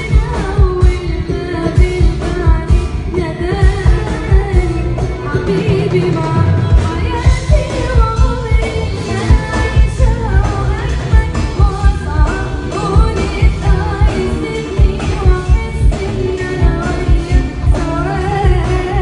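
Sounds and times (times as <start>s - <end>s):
band with heavy drum beat: 0.0s - 19.0s
woman singing: 0.0s - 19.0s.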